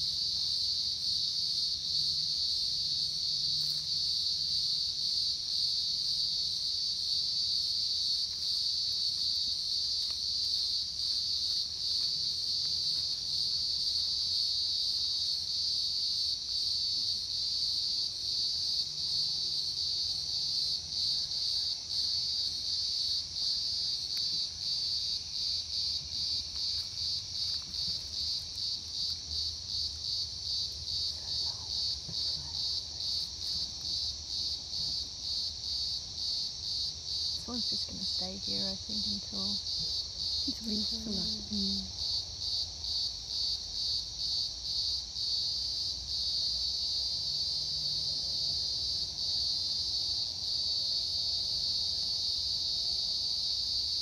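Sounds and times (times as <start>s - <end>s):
cicadas buzzing: 0.0s - 54.0s.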